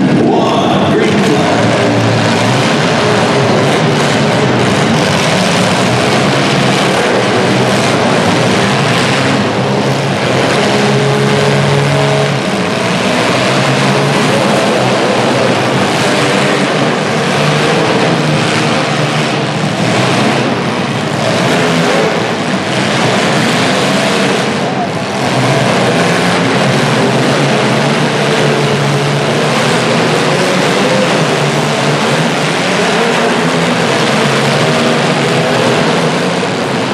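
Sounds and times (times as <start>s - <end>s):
car engines revving hard: 0.0s - 36.9s.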